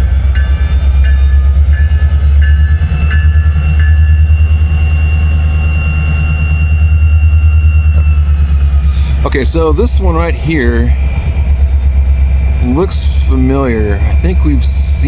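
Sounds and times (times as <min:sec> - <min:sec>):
freight train cars rumbling: 0:00.0 - 0:15.0
high-pitched wheel squealing: 0:00.0 - 0:15.0.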